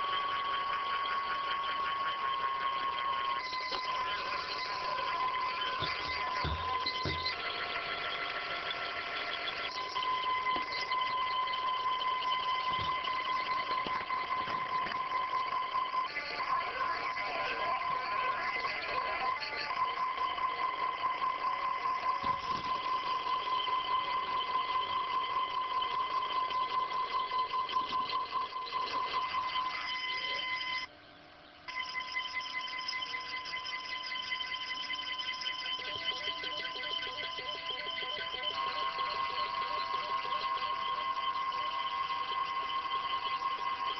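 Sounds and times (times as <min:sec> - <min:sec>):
stepper motors whining: 0:00.0 - 0:30.9, 0:31.6 - 0:43.9.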